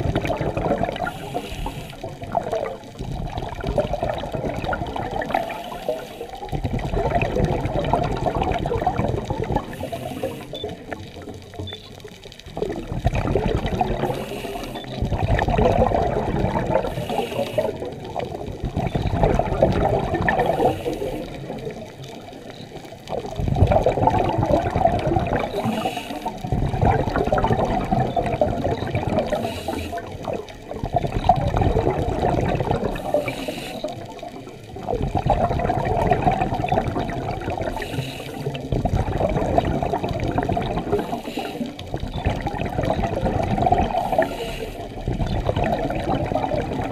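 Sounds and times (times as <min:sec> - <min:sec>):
underwater air bubbling: 0:00.0 - 0:46.9.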